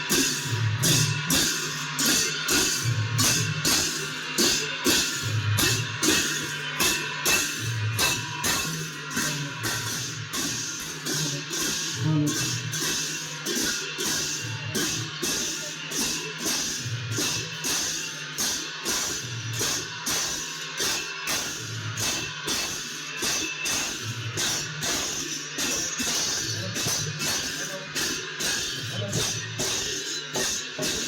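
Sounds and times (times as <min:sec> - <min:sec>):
cymbals: 0:00.0 - 0:31.0
drums: 0:00.0 - 0:31.0.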